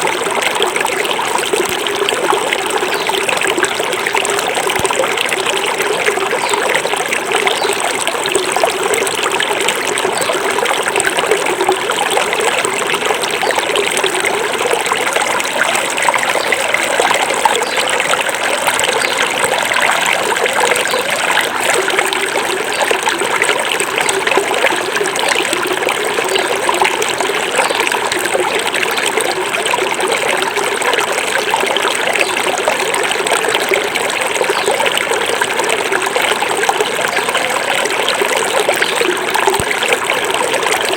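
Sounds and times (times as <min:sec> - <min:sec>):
forest river babbling over stones: 0:00.0 - 0:40.9.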